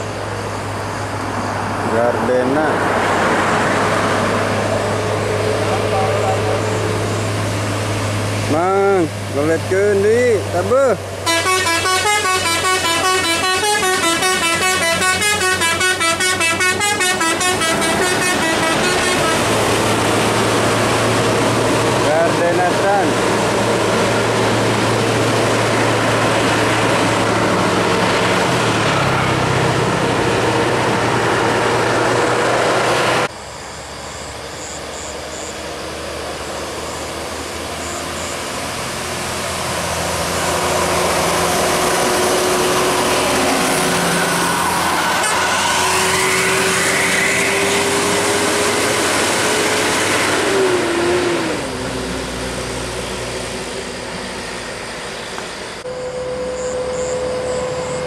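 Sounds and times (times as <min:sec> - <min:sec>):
bus engine and tyre noise: 0:00.0 - 0:58.0
bus passing by: 0:00.0 - 0:58.0.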